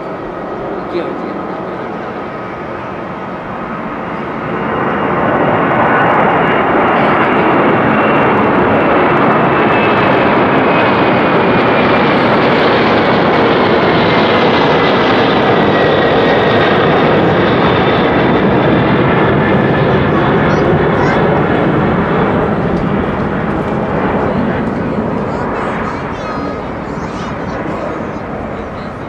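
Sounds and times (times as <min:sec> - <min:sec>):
jet engines at takeoff thrust: 0:00.0 - 0:29.0.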